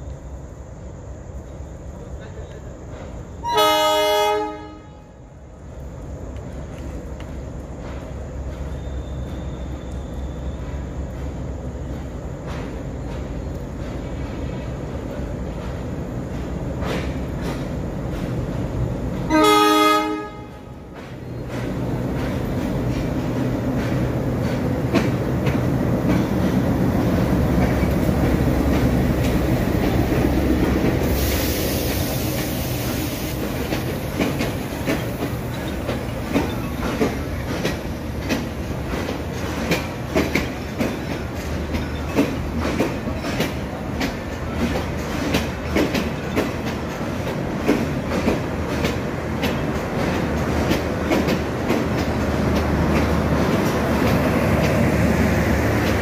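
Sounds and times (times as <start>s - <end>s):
diesel locomotive rumbling: 0.0s - 56.0s
locomotive hiss: 0.0s - 56.0s
train wheels clicking over rail joints: 1.4s - 3.9s, 5.5s - 56.0s.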